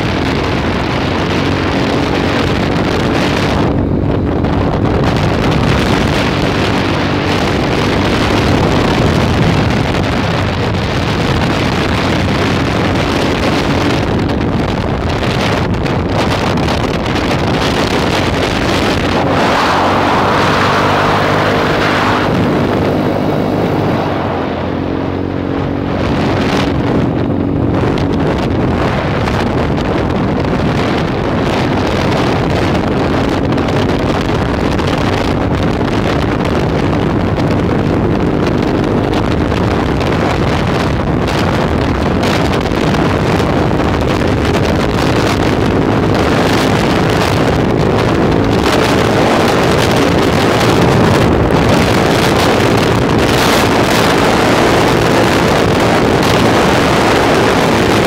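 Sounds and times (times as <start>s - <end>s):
scooter engine running: 0.0s - 58.0s
wind noise on microphone: 0.0s - 58.0s.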